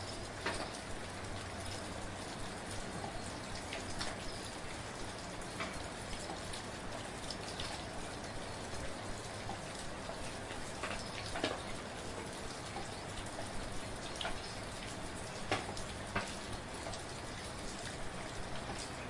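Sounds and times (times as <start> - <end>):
gentle rain falling: 0.0 - 19.0
raindrops ticking close by: 0.0 - 19.0.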